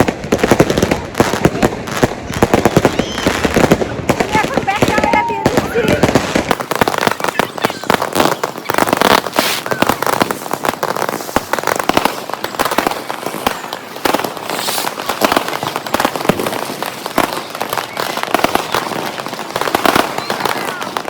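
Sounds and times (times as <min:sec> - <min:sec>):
fireworks and firecrackers bangs: 0:00.0 - 0:21.0.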